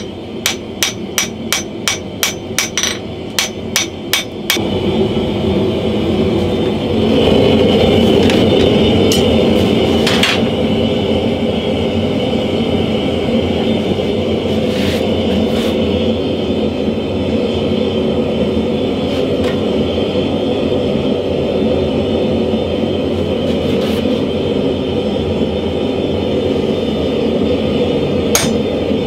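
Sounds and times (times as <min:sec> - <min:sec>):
forge roaring: 0:00.0 - 0:29.0.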